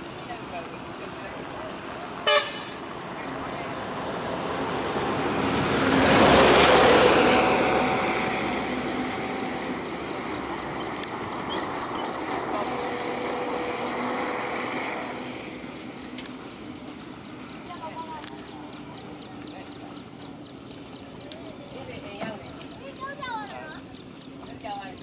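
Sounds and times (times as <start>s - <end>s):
engine passing by: 0.0s - 25.0s.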